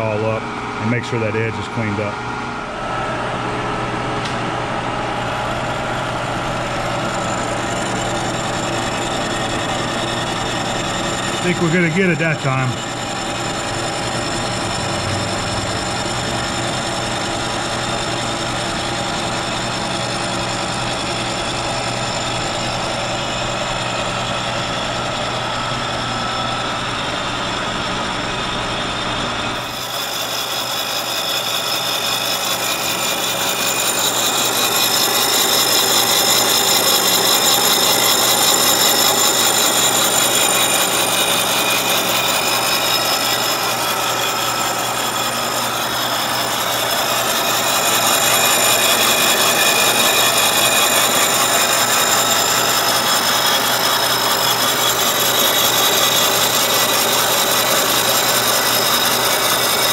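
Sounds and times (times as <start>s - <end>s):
milling machine whine: 0.0s - 59.9s.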